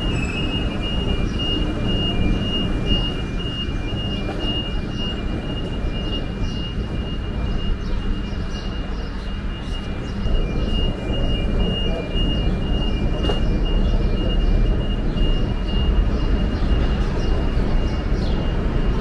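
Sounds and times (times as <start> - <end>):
faint pulsing high tone: 0.0 - 19.0
rumble of buses and traffic: 0.0 - 19.0.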